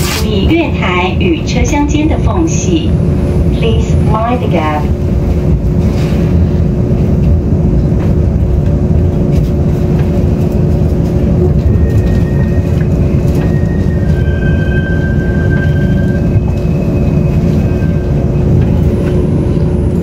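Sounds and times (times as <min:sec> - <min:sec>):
train carriage rumble: 0:00.0 - 0:20.0.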